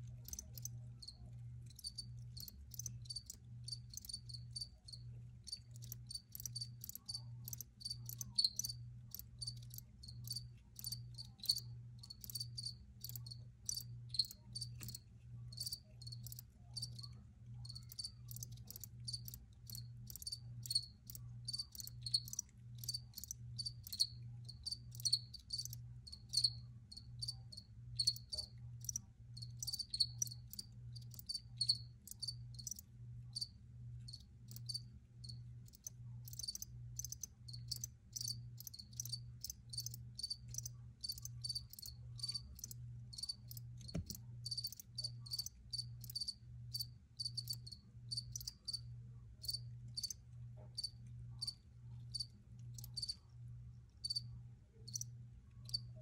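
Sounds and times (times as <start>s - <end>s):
faint pulsing low hum: 0.0s - 56.0s
crickets chirping: 0.2s - 53.2s, 54.0s - 54.3s, 54.9s - 56.0s.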